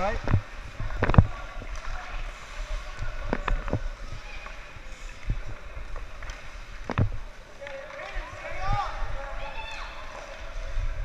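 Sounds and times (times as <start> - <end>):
skates gliding on ice: 0.0 - 11.0.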